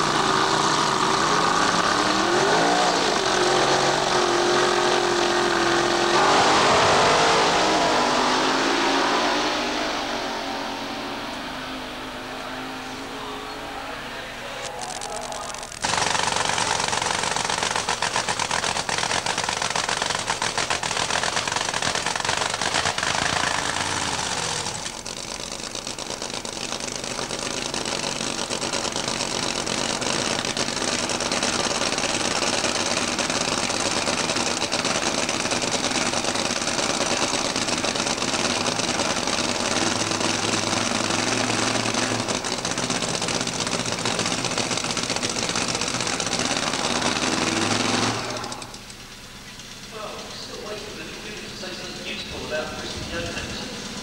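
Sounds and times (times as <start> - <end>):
drag racing engine running: 0.0 - 54.0.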